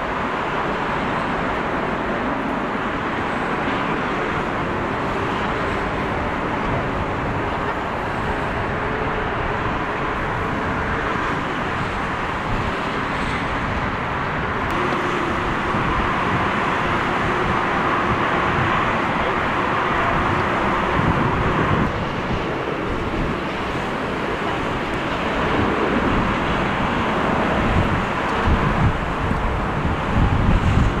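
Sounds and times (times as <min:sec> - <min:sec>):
jet engine taxiing: 0:00.0 - 0:31.0
jet engines roaring at take-off: 0:00.0 - 0:31.0.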